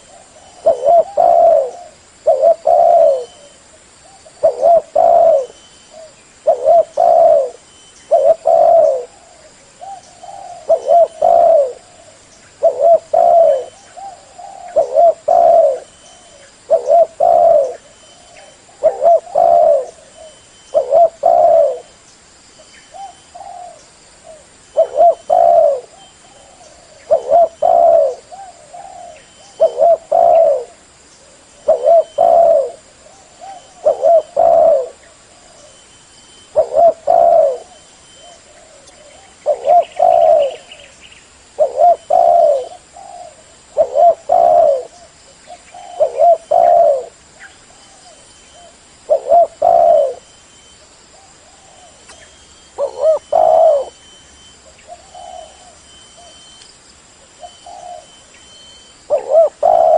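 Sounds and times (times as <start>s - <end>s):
dove cooing: 0.0s - 22.0s, 22.9s - 56.6s, 57.3s - 59.9s
faint high hiss: 0.0s - 59.9s.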